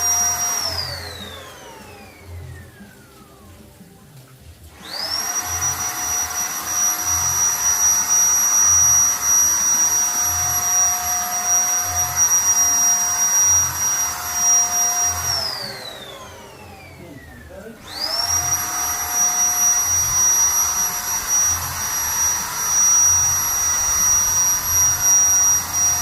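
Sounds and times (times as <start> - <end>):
paint spray gun motor whining: 0.0 - 3.7, 4.7 - 26.0.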